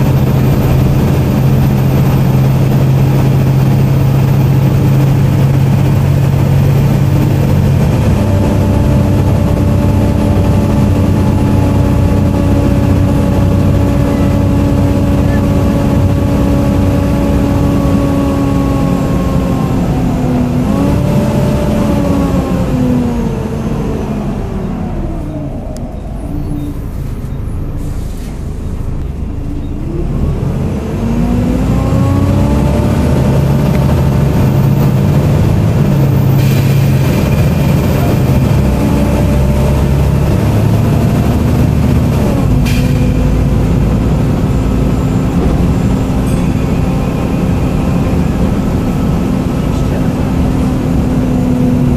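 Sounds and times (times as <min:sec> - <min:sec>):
bus drivetrain whine: 0:00.0 - 0:51.9.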